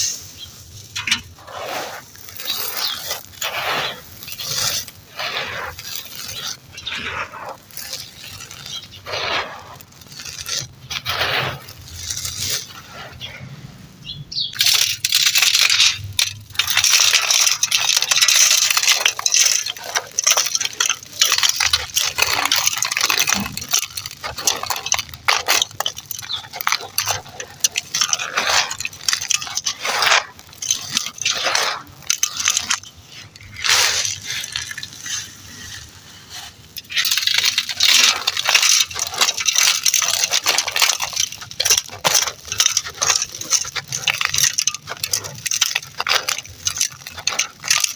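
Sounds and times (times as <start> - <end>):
gritty material crunching: 0.0 - 47.9.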